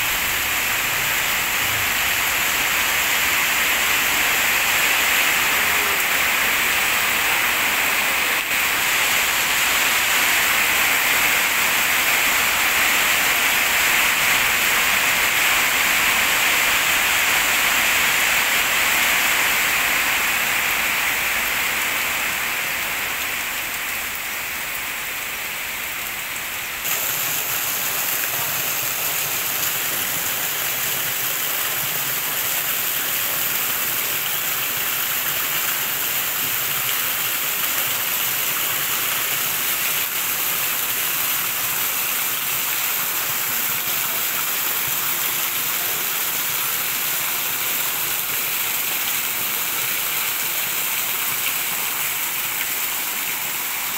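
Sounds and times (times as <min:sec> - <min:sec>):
water pouring off roof edge: 0:00.0 - 0:22.2, 0:26.7 - 0:53.9
heavy rain on a metal roof: 0:00.0 - 0:53.9.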